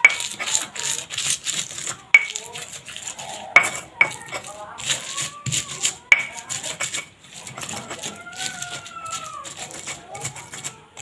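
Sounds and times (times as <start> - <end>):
crushing and rubbing chilies: 0.0 - 11.0
stone pestle knocking in mortar: 0.0 - 11.0.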